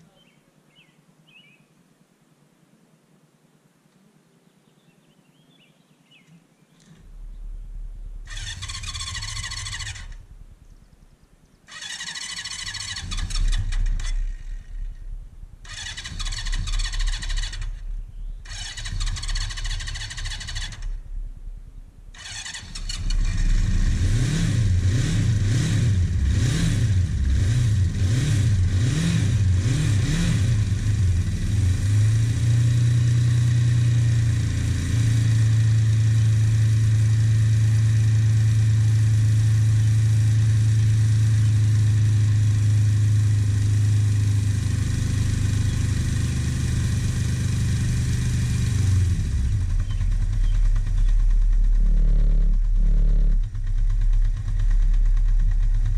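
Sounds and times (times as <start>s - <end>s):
motorcycle engine revving and idling: 6.8s - 55.9s.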